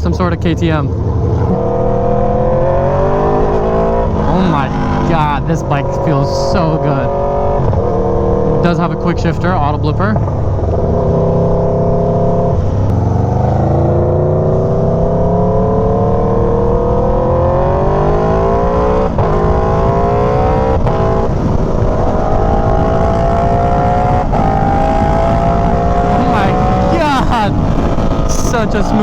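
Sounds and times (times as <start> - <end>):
motorcycle engine accelerating hard: 0.0 - 29.0.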